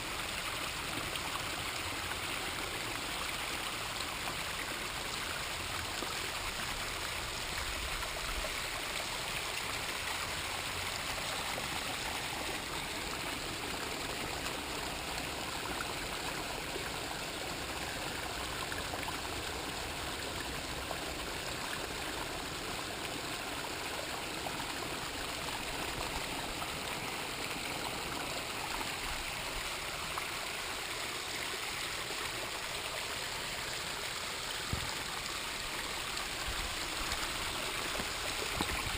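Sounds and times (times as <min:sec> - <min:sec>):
waterfall running over rocks: 0:00.0 - 0:38.9.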